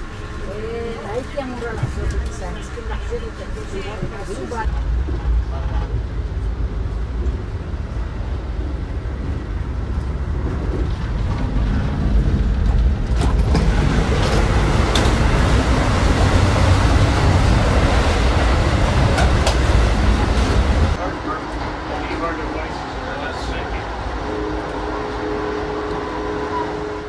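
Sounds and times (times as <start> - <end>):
wheels rumbling on rails: 0.0 - 27.0.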